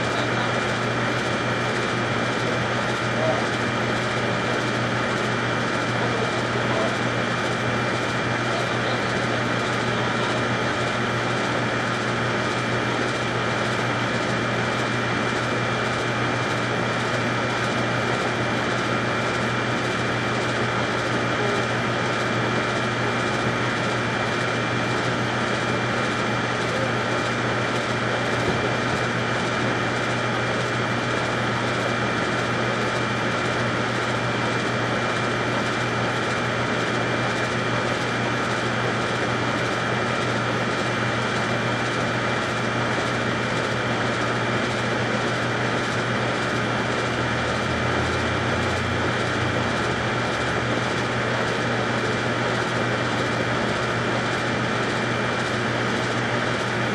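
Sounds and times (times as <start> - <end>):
water pump high whine: 0.0 - 56.9.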